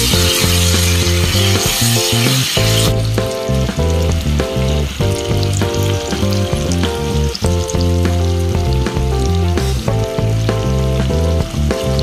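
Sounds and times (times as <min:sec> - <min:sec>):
background music with bass: 0:00.0 - 0:12.0
stir-fry sizzling in hot oil: 0:00.0 - 0:12.0.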